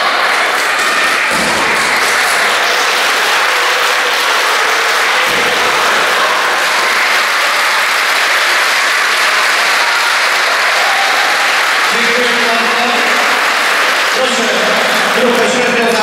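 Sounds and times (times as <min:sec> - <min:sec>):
children applauding: 0:00.0 - 0:16.0.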